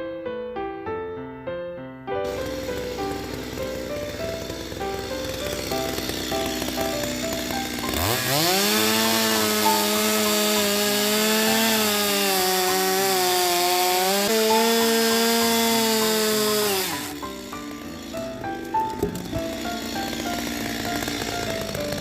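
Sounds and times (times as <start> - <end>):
chainsaw revving: 2.2 - 22.0.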